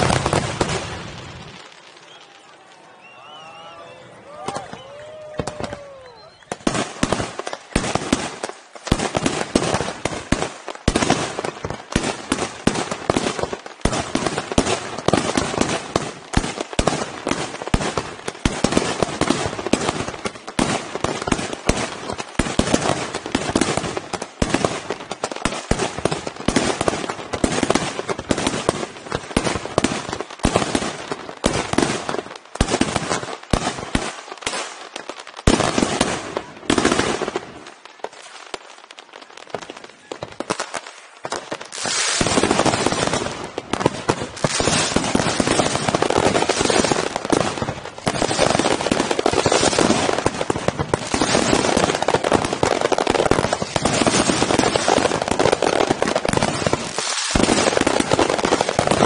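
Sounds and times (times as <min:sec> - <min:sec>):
fireworks cracks and bangs: 0:00.0 - 0:03.7, 0:04.3 - 0:59.0.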